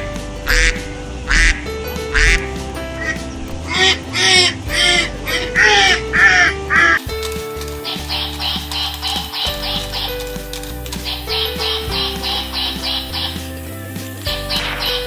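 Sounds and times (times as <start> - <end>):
background music: 0.0 - 15.0
ducks quacking: 0.5 - 7.0, 7.7 - 15.0.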